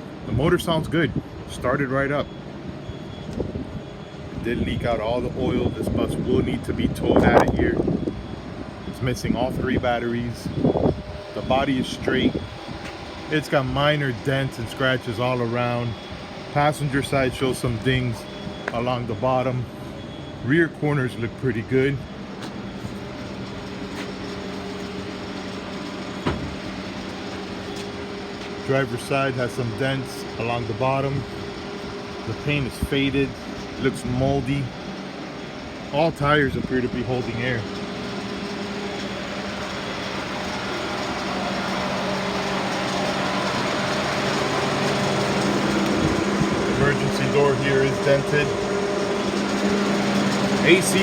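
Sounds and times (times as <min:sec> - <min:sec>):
low machine hum: 0:00.0 - 0:51.0
mechanical drone: 0:00.0 - 0:51.0.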